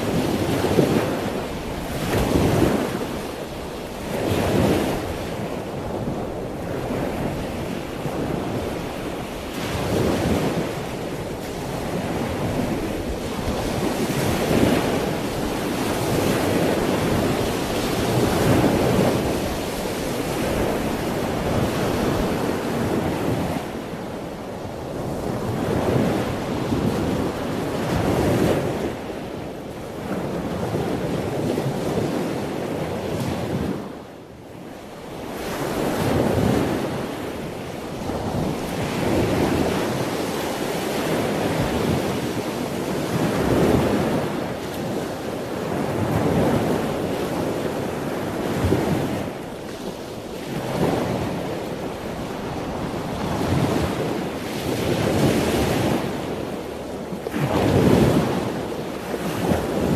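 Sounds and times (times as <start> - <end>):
ocean waves breaking: 0.0 - 59.9
wind on microphone: 0.0 - 59.9.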